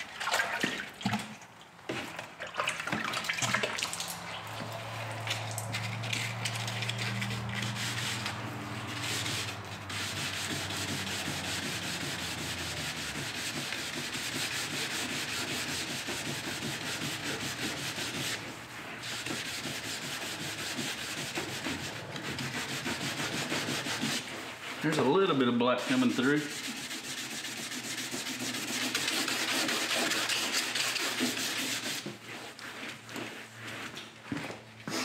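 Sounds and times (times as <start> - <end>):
abrasive pad rubbing on metal: 4.5 - 33.9.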